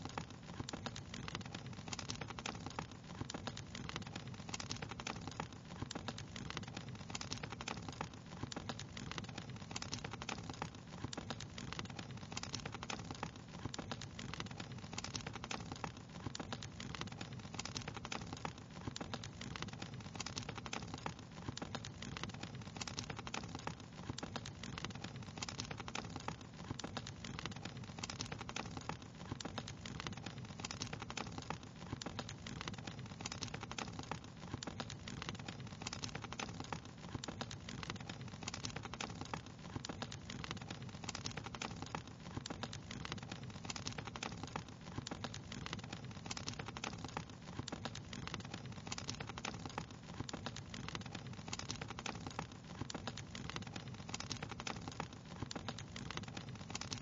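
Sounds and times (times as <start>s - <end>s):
fire pops and snaps: 0.0s - 57.0s
low rumble of burning: 0.0s - 57.0s.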